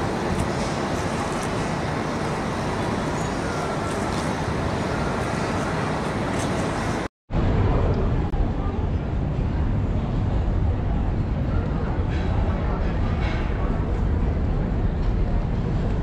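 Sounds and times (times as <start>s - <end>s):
city traffic rumble: 0.0s - 16.0s
harbour noise: 0.0s - 16.0s.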